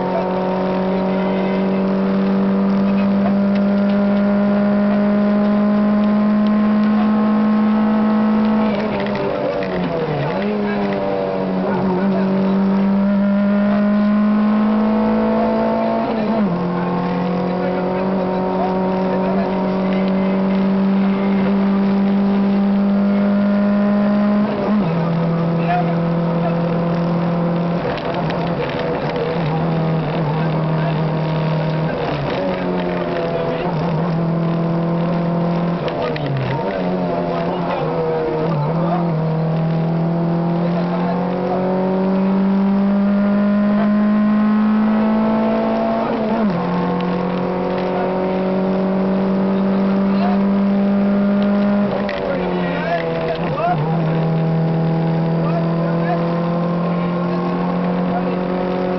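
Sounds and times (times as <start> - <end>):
car engine at high revs: 0.0 - 58.9.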